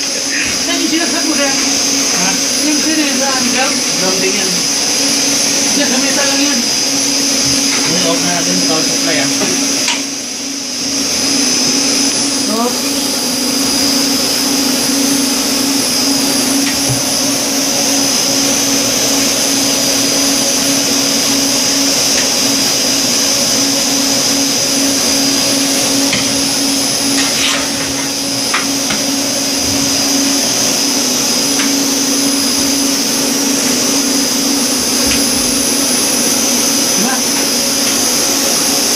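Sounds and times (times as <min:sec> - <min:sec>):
constant electrical hum: 0:00.0 - 0:38.9
cooling fans drone: 0:00.0 - 0:38.9
high whine: 0:00.0 - 0:38.9.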